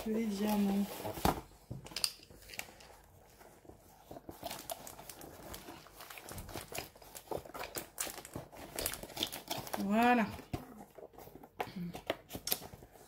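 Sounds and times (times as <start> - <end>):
packaging clicks and rustles: 0.1 - 13.0.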